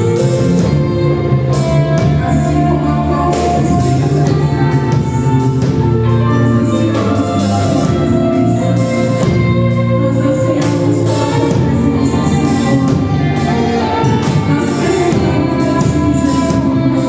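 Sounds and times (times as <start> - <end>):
praise band playing: 0.0 - 17.0
voices singing: 0.0 - 17.0.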